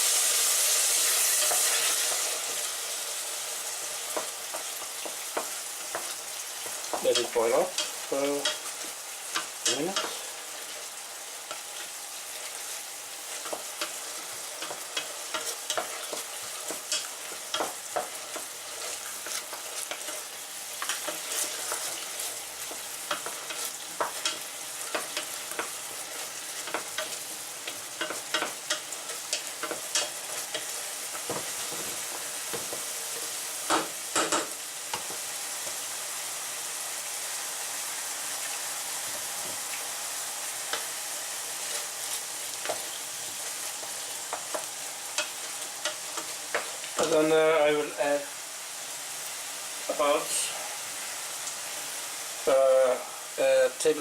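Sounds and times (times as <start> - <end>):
food sizzling in a frying pan: 0.0 - 54.0.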